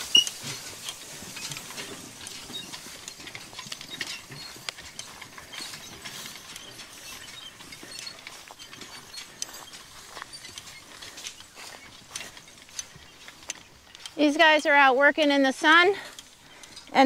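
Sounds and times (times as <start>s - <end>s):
hay rake rattling and clicking: 0.0s - 17.0s.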